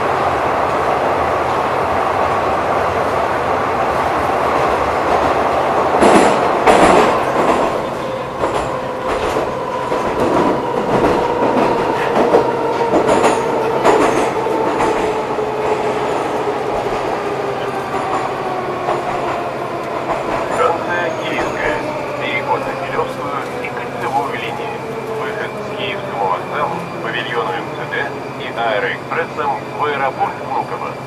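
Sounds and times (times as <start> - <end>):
metro train running in tunnel: 0.0 - 31.0.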